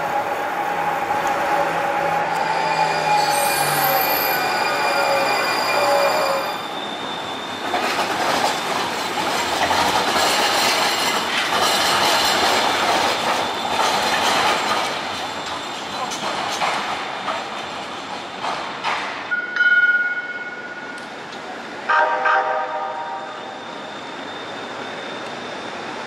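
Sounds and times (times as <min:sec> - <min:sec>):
train wheels rolling on rail: 0:00.0 - 0:26.0.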